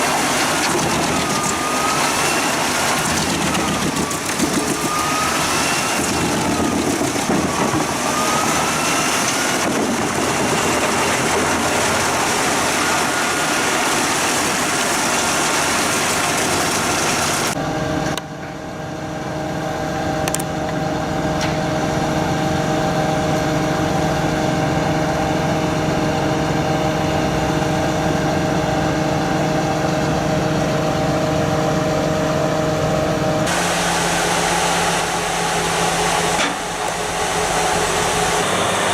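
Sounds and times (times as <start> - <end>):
heavy forestry machinery running: 0.0 - 38.9.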